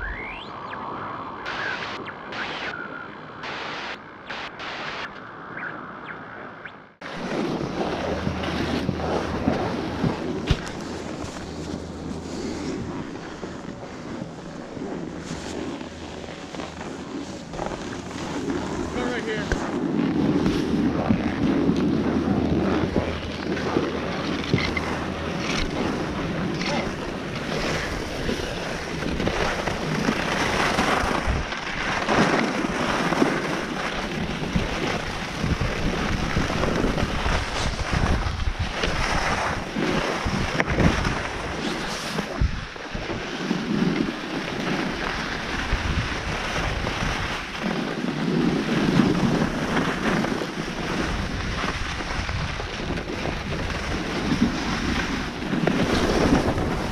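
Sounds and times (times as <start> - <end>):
wind rushing over microphone: 0.0 - 56.9
skis scraping over snow: 7.0 - 56.9.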